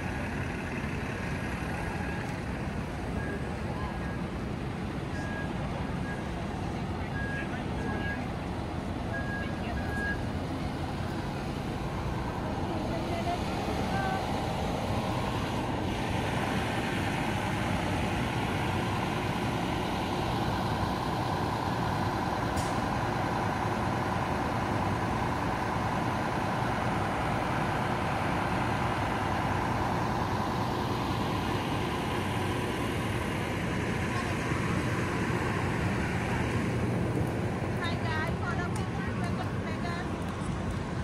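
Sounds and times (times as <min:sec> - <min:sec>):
bus engine idling: 0:00.0 - 0:41.0.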